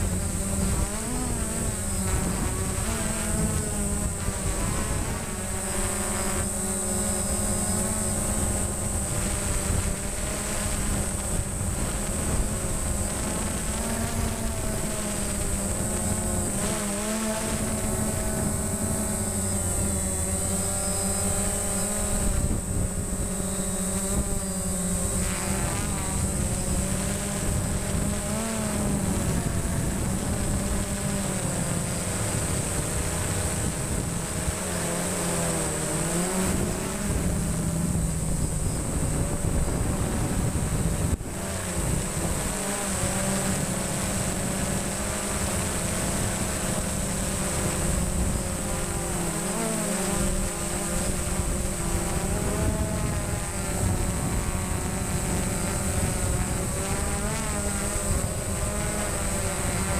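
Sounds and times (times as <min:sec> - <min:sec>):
drone propellers buzzing: 0:00.0 - 0:59.9
wind noise on microphone: 0:00.0 - 0:59.9.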